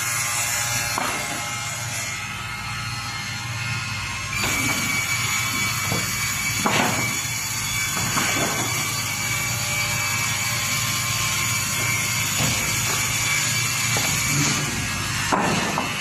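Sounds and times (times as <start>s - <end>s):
log saw running with whine: 0.0s - 16.0s.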